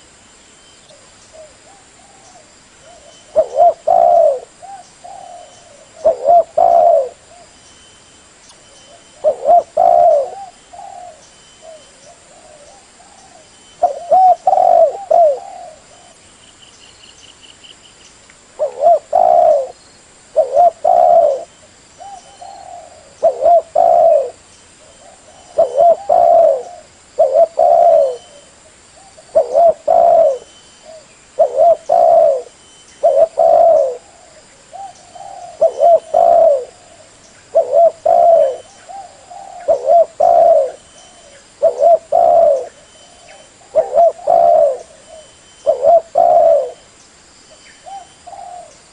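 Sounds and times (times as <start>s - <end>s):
dove cooing: 0.9s - 7.6s, 8.9s - 16.2s, 18.6s - 46.9s, 47.8s - 48.9s.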